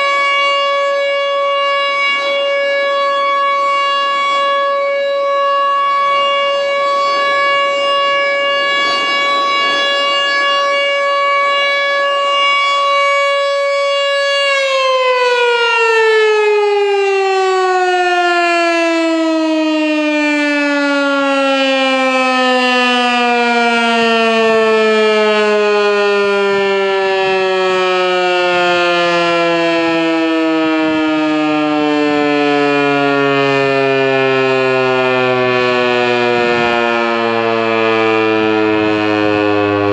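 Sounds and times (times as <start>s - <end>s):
warning siren winding down: 0.0s - 39.9s.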